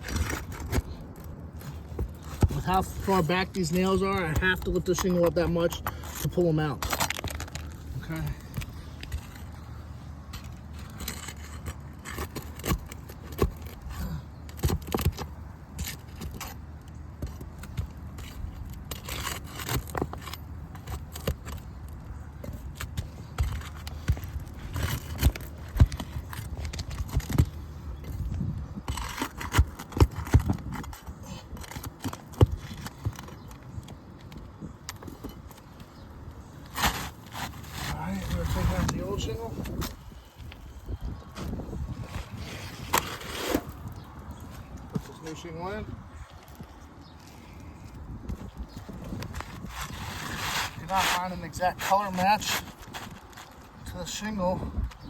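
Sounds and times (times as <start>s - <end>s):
tool scraping under roof shingles: 0.0s - 55.0s.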